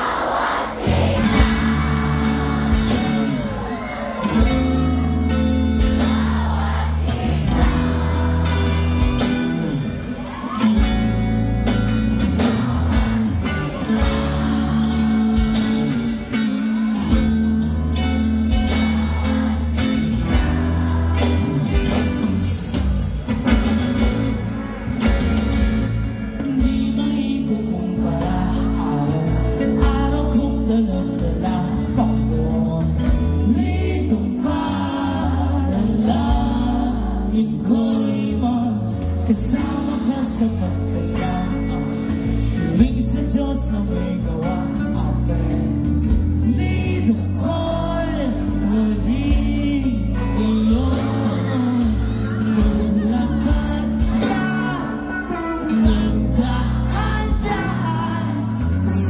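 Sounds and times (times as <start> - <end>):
person singing lead vocals: 0.0 - 59.0
pop-rock band playing: 0.0 - 59.0
bass line: 0.8 - 59.0.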